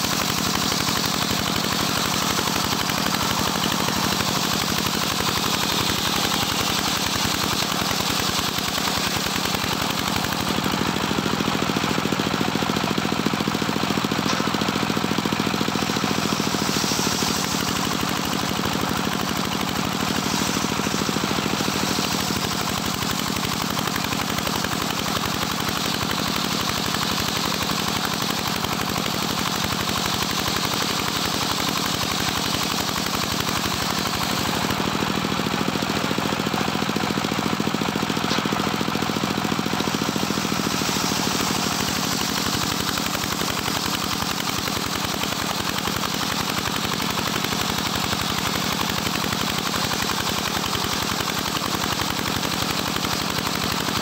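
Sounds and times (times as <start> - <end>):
circular saw blade cutting log: 0.0 - 54.0
sawmill engine running under load: 0.0 - 54.0.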